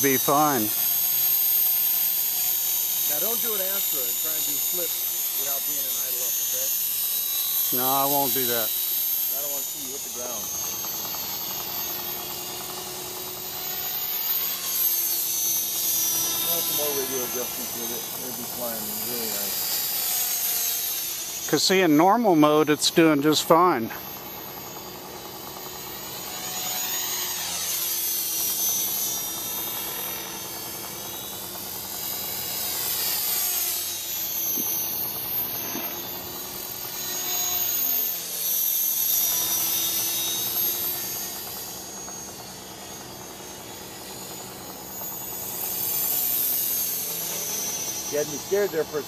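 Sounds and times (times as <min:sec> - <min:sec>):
rc helicopter motor and rotor whine: 0:00.0 - 0:49.0.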